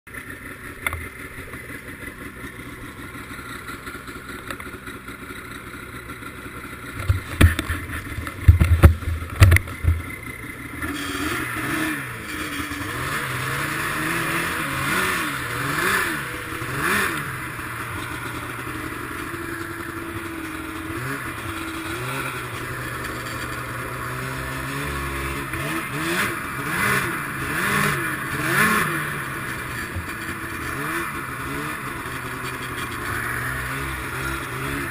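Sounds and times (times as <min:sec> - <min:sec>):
snowmobile engine revving: 0:06.2 - 0:34.9.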